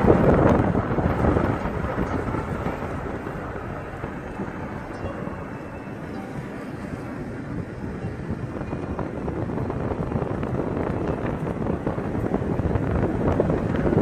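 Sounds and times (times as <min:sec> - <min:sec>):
car wind and road noise: 0:00.0 - 0:14.0.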